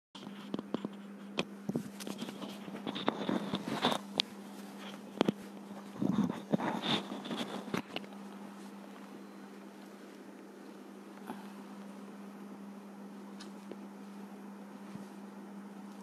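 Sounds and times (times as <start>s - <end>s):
steady low hum: 0.2s - 16.0s.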